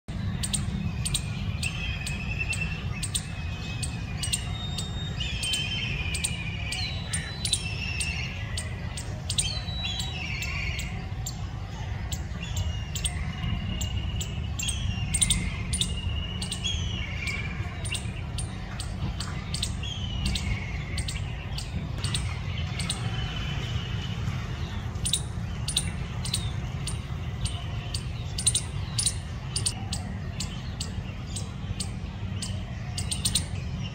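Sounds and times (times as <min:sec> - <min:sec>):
squirrel chip calls: 0:00.1 - 0:33.9
steady low rumble: 0:00.1 - 0:33.9.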